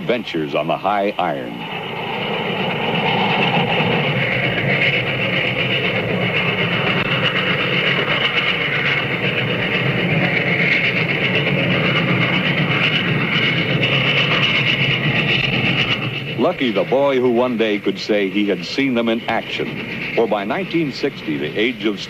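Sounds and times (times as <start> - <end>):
rail noise: 0.0 - 22.0
steam train rumbling: 0.0 - 22.0.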